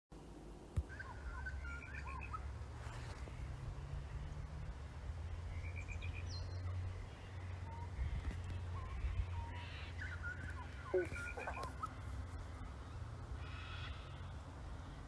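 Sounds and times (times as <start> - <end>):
birds calling: 0.8 - 15.0.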